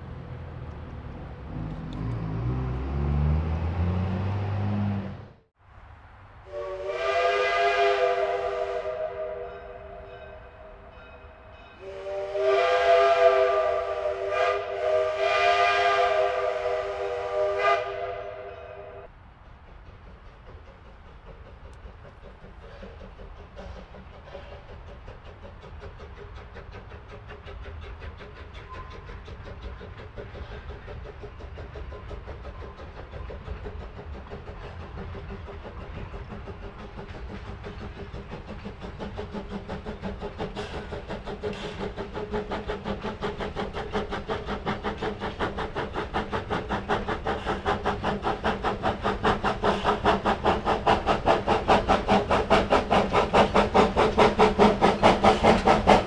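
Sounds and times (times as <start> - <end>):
steam locomotive exhaust beat: 0.0 - 56.0.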